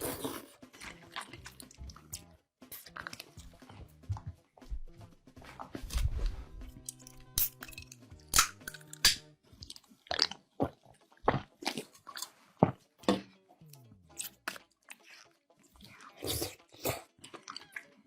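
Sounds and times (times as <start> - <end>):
soft music: 0.0 - 18.0.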